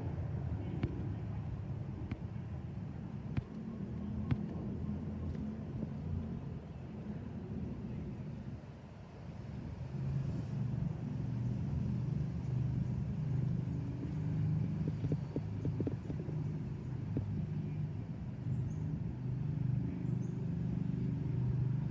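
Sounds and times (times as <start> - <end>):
low engine rumble: 0.0 - 21.9.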